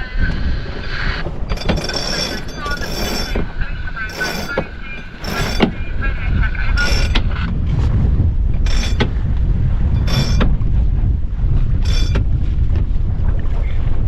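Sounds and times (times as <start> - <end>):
strong wind buffeting microphone: 0.0 - 14.0
water rushing along hull: 0.0 - 14.0.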